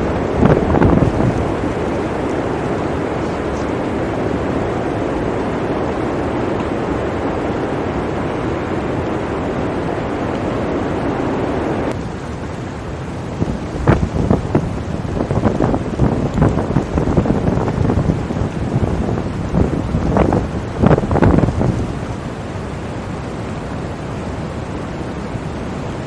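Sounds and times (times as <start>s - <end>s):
blizzard wind blowing: 0.0s - 26.0s
wind buffeting microphone: 0.0s - 26.0s.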